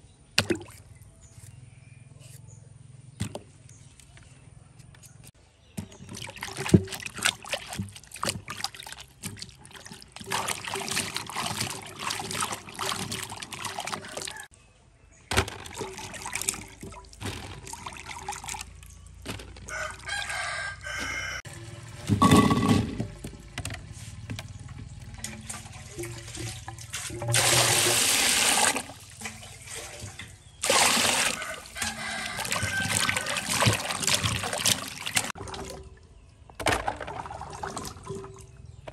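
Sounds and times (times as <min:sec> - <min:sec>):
water splashing in a basin: 0:00.4 - 0:01.0, 0:05.7 - 0:14.5, 0:15.3 - 0:38.9.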